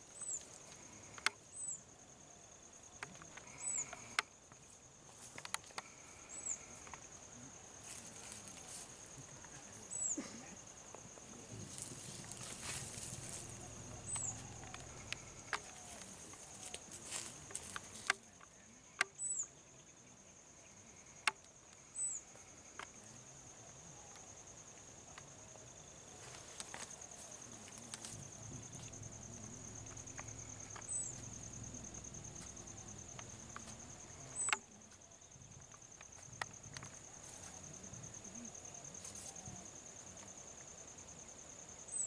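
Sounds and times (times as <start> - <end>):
insect trilling: 0.0 - 42.0.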